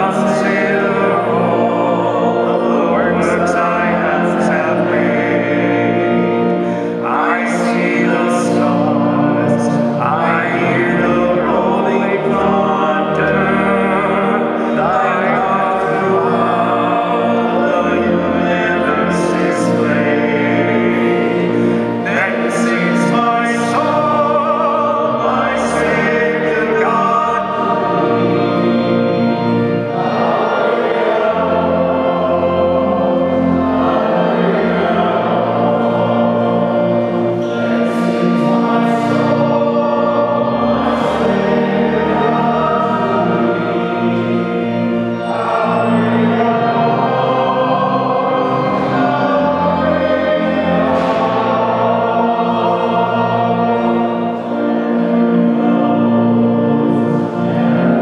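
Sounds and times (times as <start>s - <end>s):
sustained accompanying chords: 0.0s - 58.0s
voices singing a hymn: 0.0s - 58.0s.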